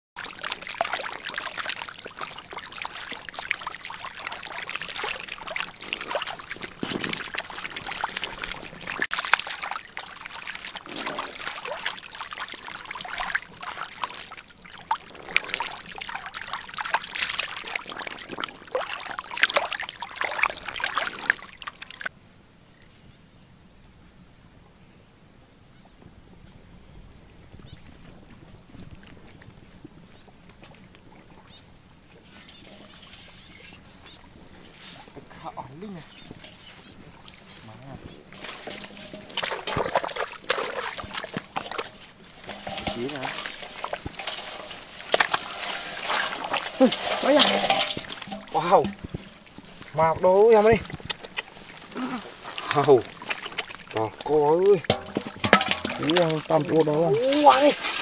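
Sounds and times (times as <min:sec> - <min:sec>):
fish thrashing in mud and water: 0:00.2 - 0:22.1, 0:32.2 - 0:58.0.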